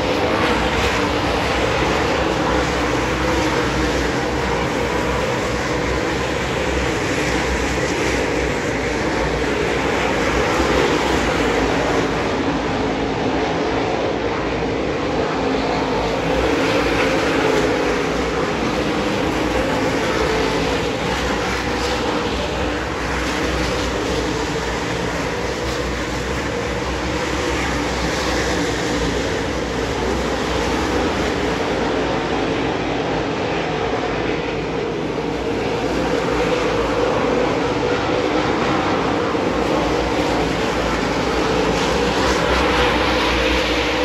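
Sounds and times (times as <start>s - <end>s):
race car engines droning: 0.0s - 44.0s.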